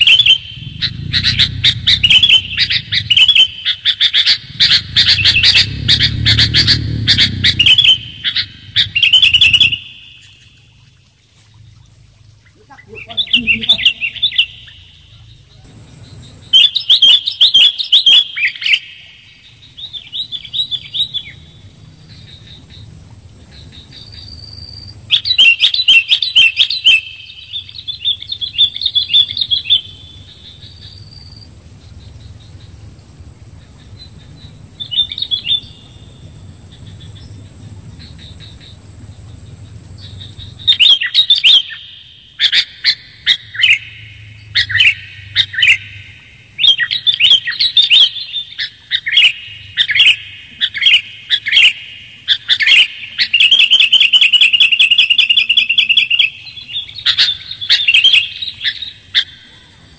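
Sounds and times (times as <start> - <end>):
bulbul calling: 0.0 - 59.9.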